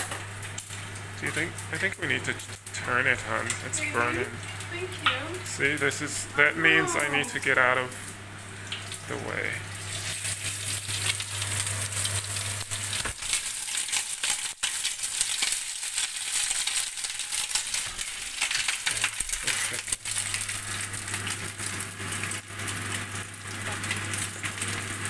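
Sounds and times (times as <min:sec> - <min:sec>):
bacon sizzling and popping: 0:00.0 - 0:25.0.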